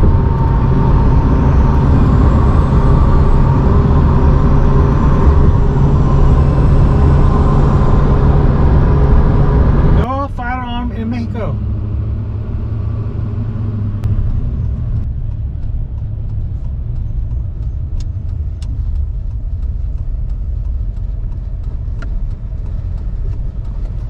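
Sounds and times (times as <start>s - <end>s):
vehicle cabin engine and road rumble: 0.0s - 24.0s.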